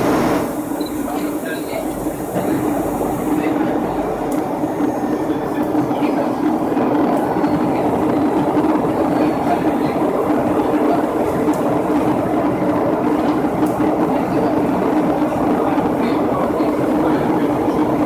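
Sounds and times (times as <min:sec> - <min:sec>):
airliner engine drone and rushing air: 0:00.0 - 0:18.0.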